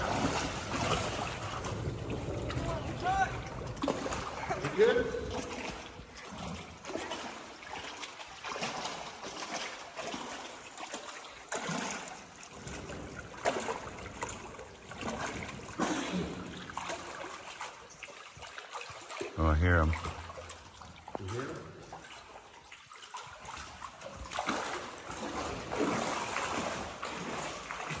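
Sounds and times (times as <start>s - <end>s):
water splashing and trickling: 0.0s - 28.0s.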